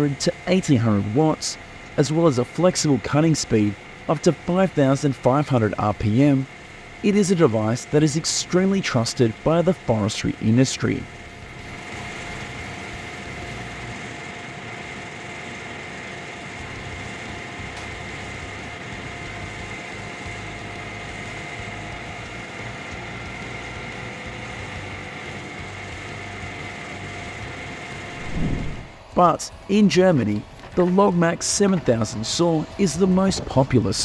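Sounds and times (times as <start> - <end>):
constant high whine: 0.0 - 34.0
machine motor drone: 0.0 - 34.0.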